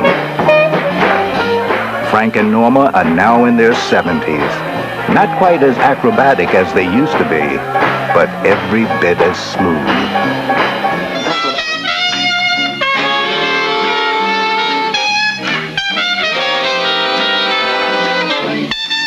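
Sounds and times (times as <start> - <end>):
big-band swing jazz: 0.0 - 19.0.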